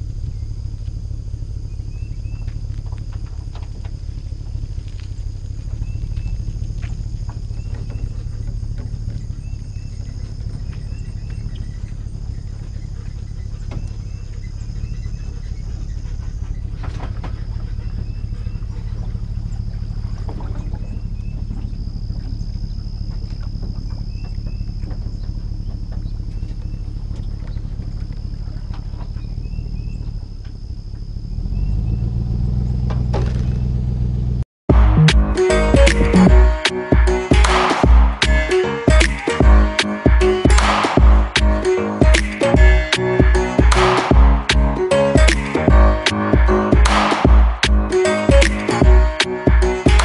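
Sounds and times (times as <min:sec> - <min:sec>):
birds chirping: 0:00.0 - 0:30.2, 0:34.8 - 0:50.0
insects buzzing: 0:00.0 - 0:34.3, 0:35.3 - 0:50.0
engine idling: 0:00.0 - 0:50.0.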